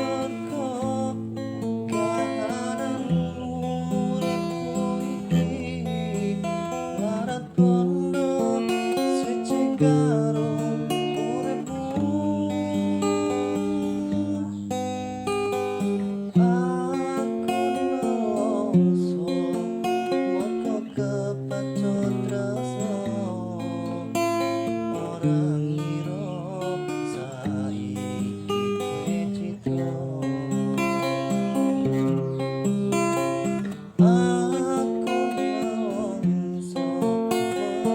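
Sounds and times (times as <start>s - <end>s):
plucked string instrument music: 0.0s - 37.9s.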